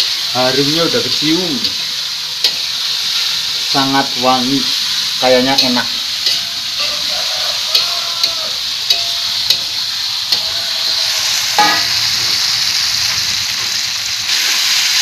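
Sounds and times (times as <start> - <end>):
spice paste sizzling in hot oil: 0.0 - 15.0
spatula scraping a wok: 1.6 - 15.0.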